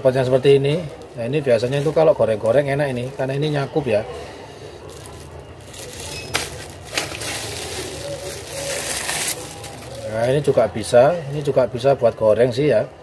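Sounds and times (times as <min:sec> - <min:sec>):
plastic bag crinkling: 0:00.3 - 0:04.0, 0:04.6 - 0:12.2.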